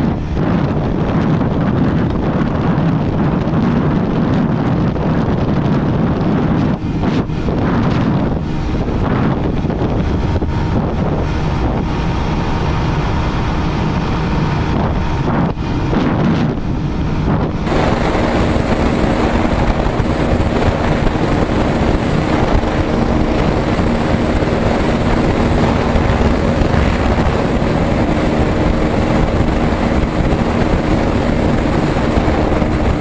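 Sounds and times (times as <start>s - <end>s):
wind buffeting microphone: 0.0s - 33.0s
motorcycle engine at high revs: 1.6s - 33.0s.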